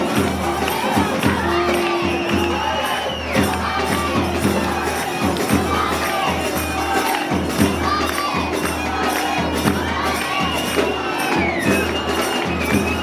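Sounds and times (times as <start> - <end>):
crowd: 0.0 - 13.0
drums beating steady rhythm: 0.0 - 13.0.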